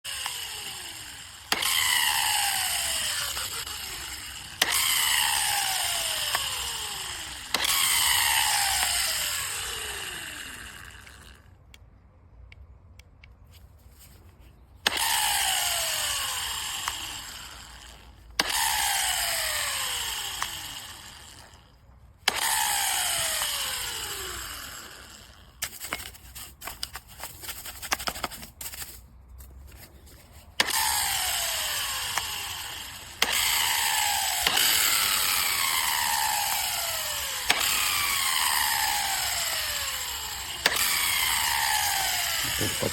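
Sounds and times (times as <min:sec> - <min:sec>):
angle grinder motor whine: 0:00.1 - 0:11.5, 0:14.8 - 0:25.5, 0:30.6 - 0:42.9.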